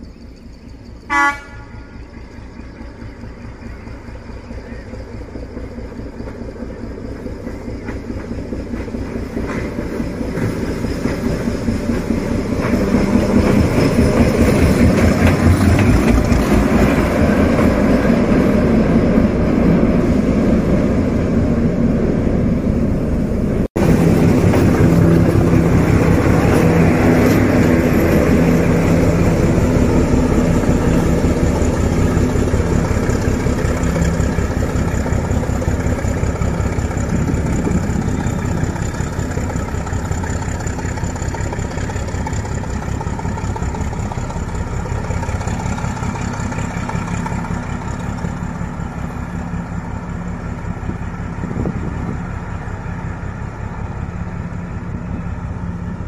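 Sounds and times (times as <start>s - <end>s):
wagons on rails: 0.0s - 21.9s, 22.7s - 56.0s
locomotive engine hum: 0.0s - 56.0s.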